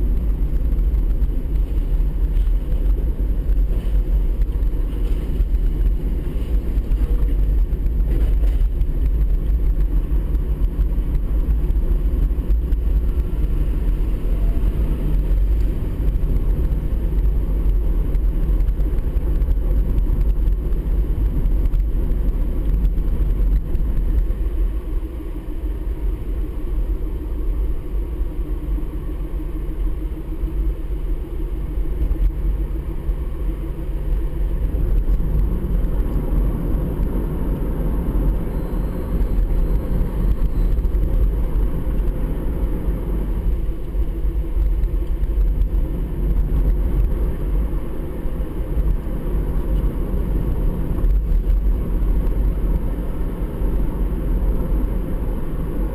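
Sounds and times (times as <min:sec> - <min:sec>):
engine hum: 0:00.0 - 0:55.9
road and tyre rumble: 0:00.0 - 0:55.9.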